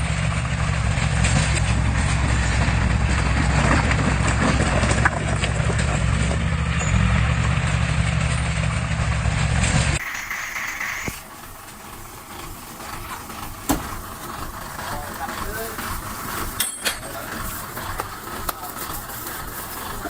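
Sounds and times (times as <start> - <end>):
diesel engine rumbling: 0.0 - 10.1, 11.0 - 20.0.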